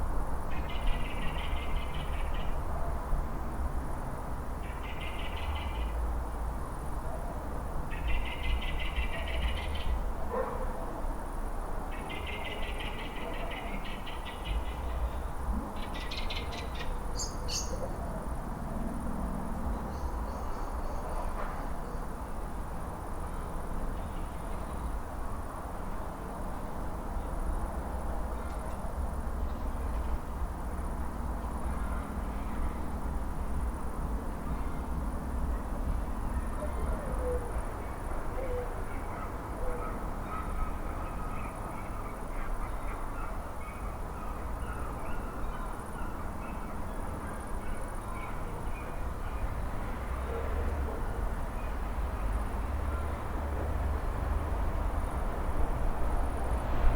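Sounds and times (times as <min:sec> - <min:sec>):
distant traffic rumble: 0:00.0 - 0:56.9.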